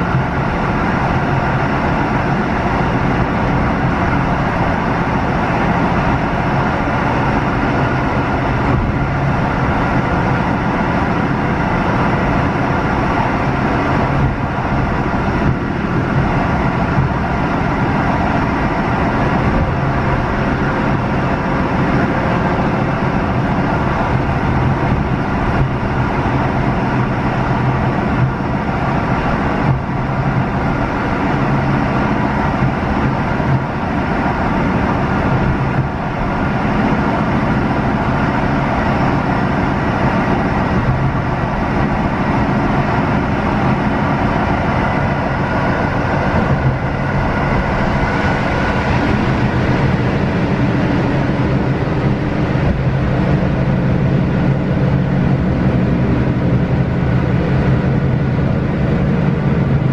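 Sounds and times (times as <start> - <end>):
steady low hum: 0.0 - 59.9
train running rumble: 0.0 - 59.9.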